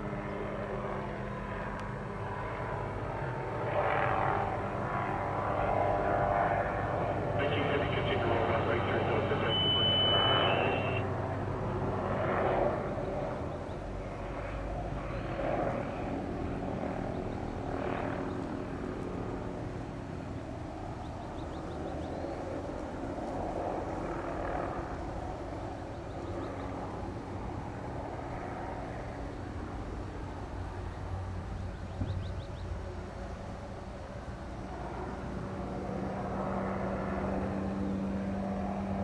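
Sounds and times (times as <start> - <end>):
helicopter flying by: 0.0 - 39.0.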